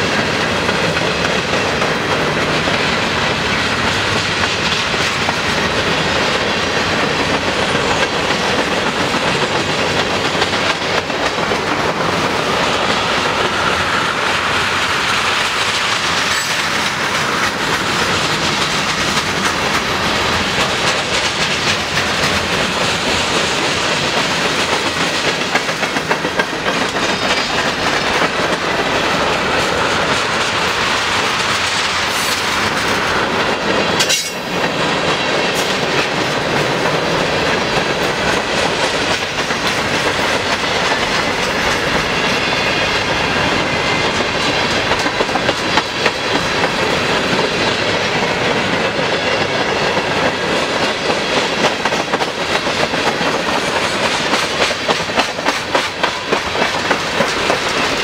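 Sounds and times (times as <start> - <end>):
freight train rolling past: 0.0 - 58.0
steel wheels rumbling on rail: 0.0 - 58.0
wheels clickety-clack over rail joints: 0.0 - 58.0.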